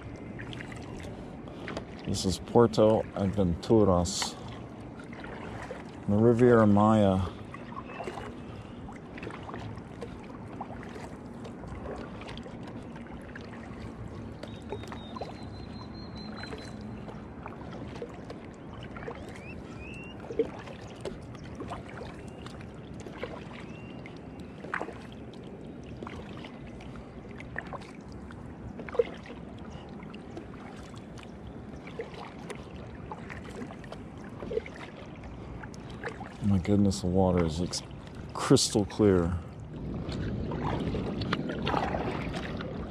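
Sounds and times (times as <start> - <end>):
water dripping off paddle: 0.0 - 6.0, 7.2 - 42.9
kayak paddle strokes in water: 0.0 - 42.9.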